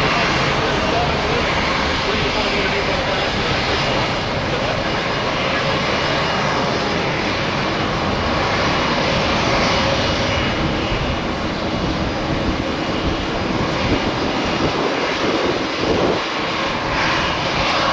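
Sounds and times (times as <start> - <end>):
jet engines roaring: 0.0 - 17.9.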